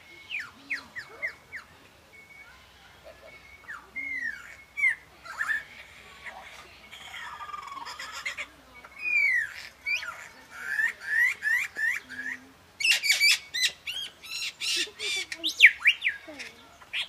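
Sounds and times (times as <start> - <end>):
lyrebird singing: 0.0 - 17.0.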